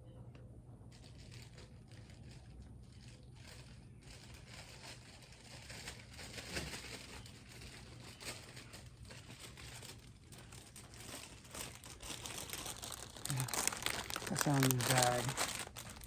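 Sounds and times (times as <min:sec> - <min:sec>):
dry material rustling and crinkling: 0:00.9 - 0:16.0.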